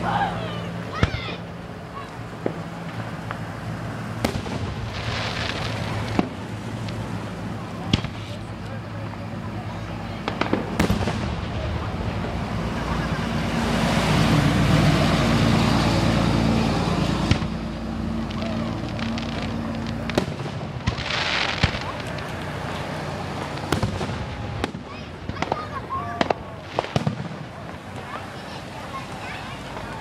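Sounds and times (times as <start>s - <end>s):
fireworks bangs: 0.9s - 30.0s.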